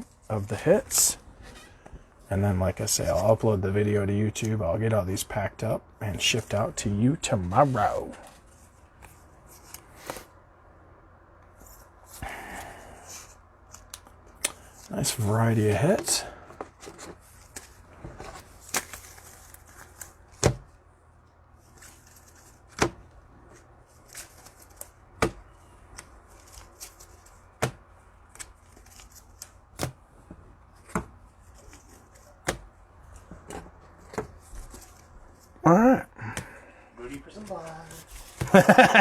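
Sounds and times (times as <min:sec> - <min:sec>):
soft rustling of cards: 0:05.6 - 0:10.5, 0:11.4 - 0:35.7, 0:36.3 - 0:39.0.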